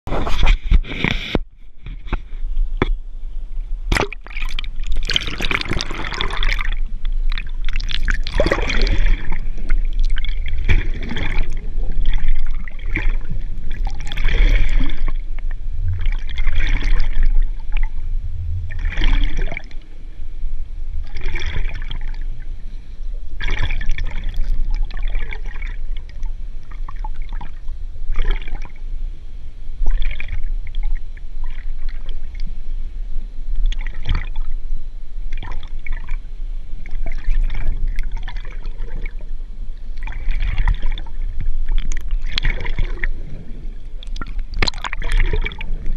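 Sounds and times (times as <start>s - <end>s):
low underwater rumble: 0.1s - 45.9s
water sloshing and bubbling: 0.1s - 45.9s.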